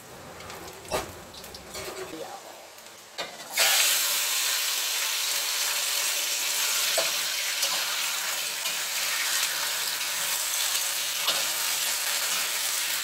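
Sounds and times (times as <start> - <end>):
food sizzling in hot oil: 0.7 - 13.0.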